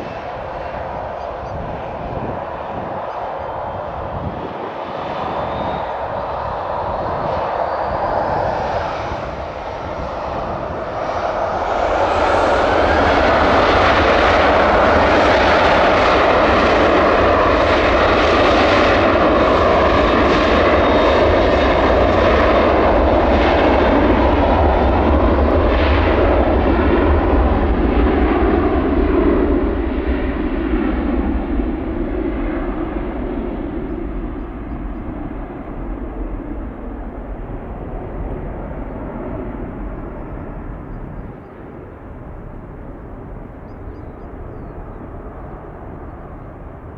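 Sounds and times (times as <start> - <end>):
jet airliner engines: 0.0 - 46.9.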